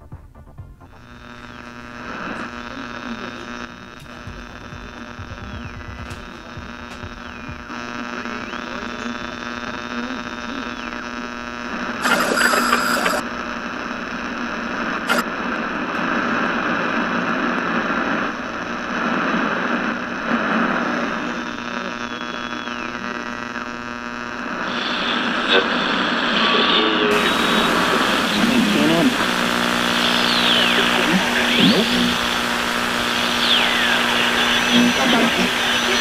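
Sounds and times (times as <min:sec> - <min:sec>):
electronic hum: 0:00.9 - 0:36.0
radio static: 0:00.9 - 0:36.0.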